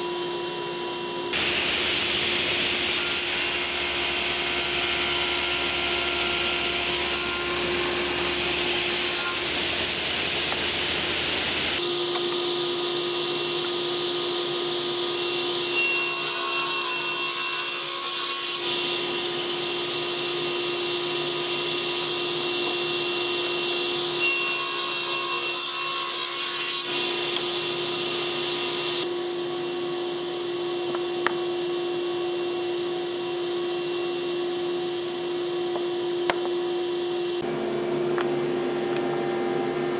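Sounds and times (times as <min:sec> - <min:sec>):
woodworking machine humming: 0:01.0 - 0:39.9
table saw cutting wood: 0:01.1 - 0:39.9.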